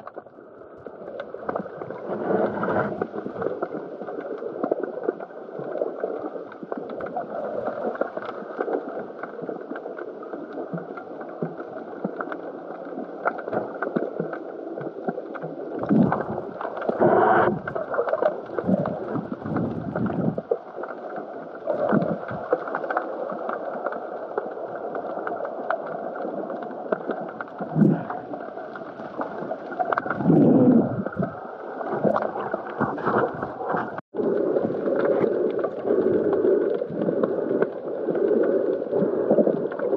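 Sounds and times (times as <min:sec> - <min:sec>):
muffled underwater rush: 0:00.0 - 0:39.9.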